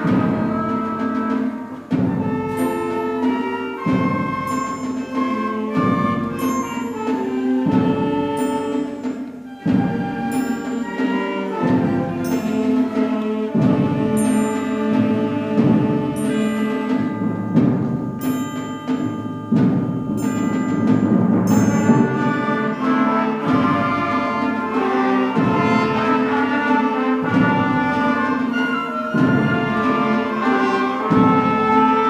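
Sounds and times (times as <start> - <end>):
concert band playing: 0.0 - 32.0
sharp percussion strikes: 0.0 - 32.0.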